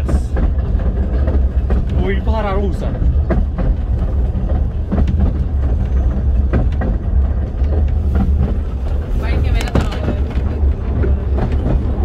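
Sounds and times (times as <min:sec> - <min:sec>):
railway carriage rumble: 0:00.0 - 0:12.0
wheels clicking and knocking: 0:00.0 - 0:12.0.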